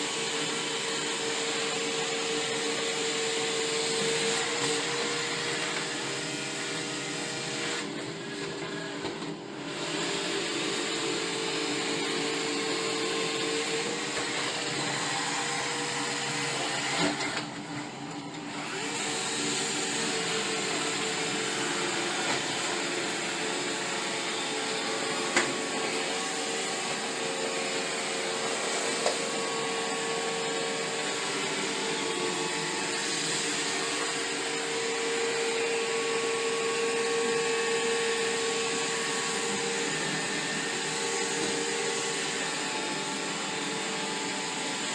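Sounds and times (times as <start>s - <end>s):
robot vacuum whirring: 0.0s - 44.9s.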